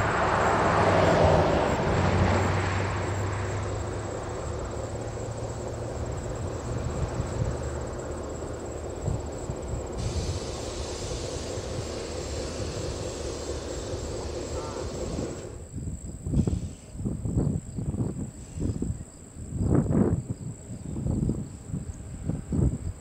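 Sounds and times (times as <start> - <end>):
diesel locomotive drone: 0.0 - 23.0
rolling freight cars: 0.0 - 23.0.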